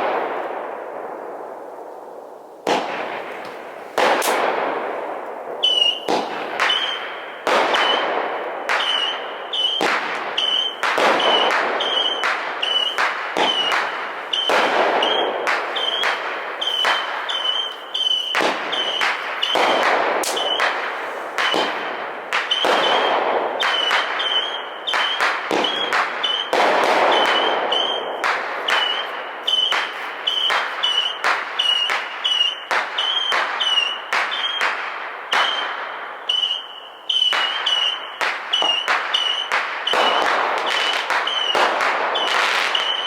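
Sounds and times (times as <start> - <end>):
fireworks bangs: 0.0 - 43.0
fireworks crackling: 0.0 - 43.0.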